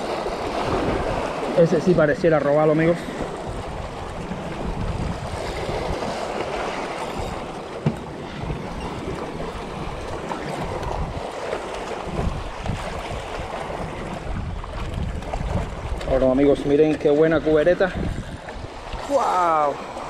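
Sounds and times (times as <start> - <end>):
sea water splashing on rocks: 0.0 - 20.0
wind on microphone: 0.0 - 20.0.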